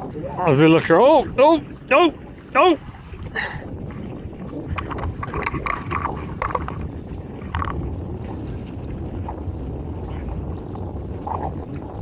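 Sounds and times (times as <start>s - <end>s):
water lapping against boat hull: 0.0s - 12.0s
wind on microphone: 0.0s - 12.0s.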